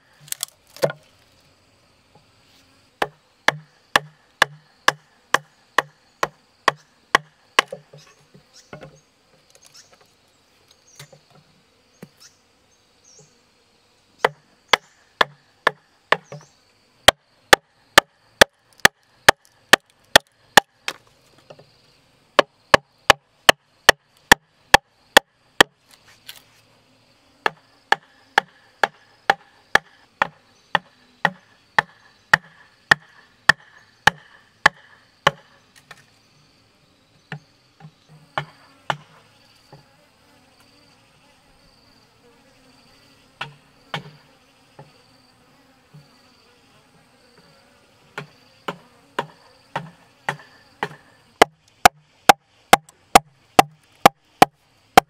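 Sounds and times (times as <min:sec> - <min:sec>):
insects humming: 0:00.0 - 0:55.0.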